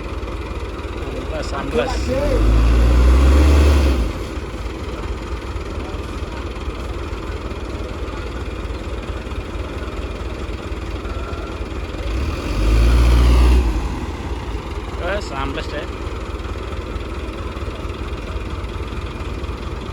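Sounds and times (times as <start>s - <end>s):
heavy diesel engine rumbling: 0.0s - 19.9s.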